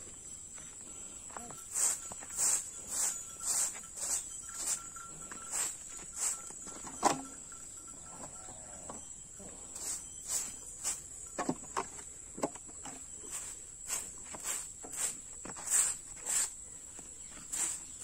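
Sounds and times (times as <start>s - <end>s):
broom sweeping dirt floor: 0.0s - 7.2s, 9.4s - 18.0s
insects droning: 0.0s - 18.0s.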